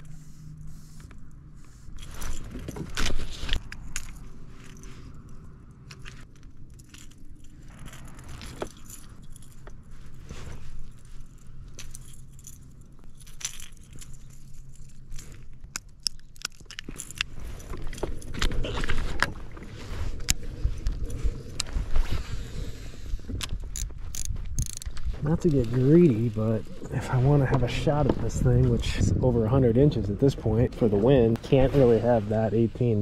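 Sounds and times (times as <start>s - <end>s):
fishing gear clicking and rattling: 0.0s - 22.2s, 23.0s - 28.2s.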